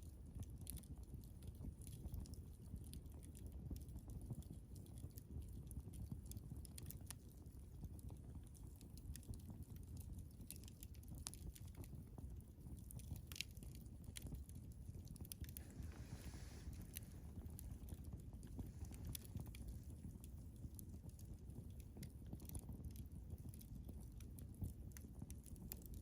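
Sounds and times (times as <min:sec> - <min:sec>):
campfire crackling: 0:00.1 - 0:26.0
fire rumbling: 0:00.1 - 0:26.0.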